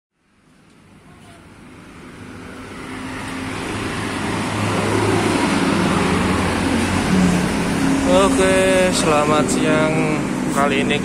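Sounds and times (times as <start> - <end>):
road traffic noise: 0.2 - 11.0
vehicle engine running: 0.8 - 11.0.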